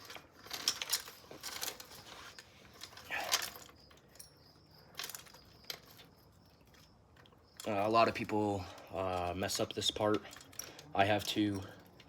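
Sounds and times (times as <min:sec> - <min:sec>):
bicycle chain clinking and rattling: 0:00.0 - 0:12.0.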